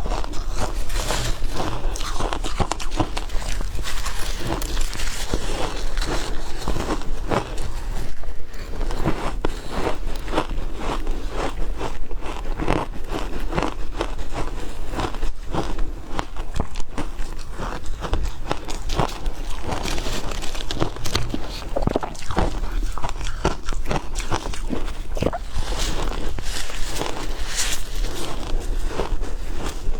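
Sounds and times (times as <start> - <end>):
person crunching shaved ice: 0.0 - 29.9.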